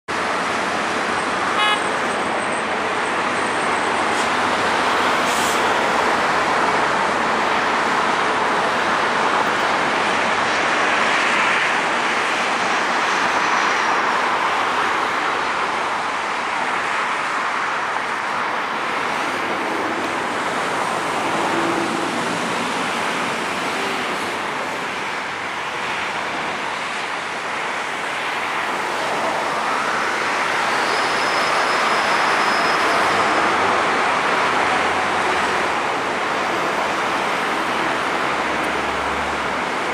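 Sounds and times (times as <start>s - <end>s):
road traffic noise: 0.1s - 39.9s.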